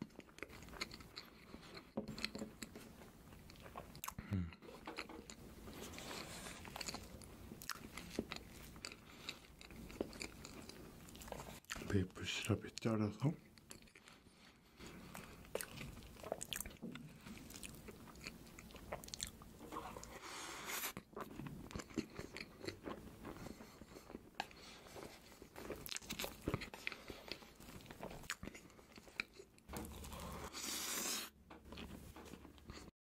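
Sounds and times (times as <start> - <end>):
wet chewing: 0.0 - 12.0, 13.6 - 32.9.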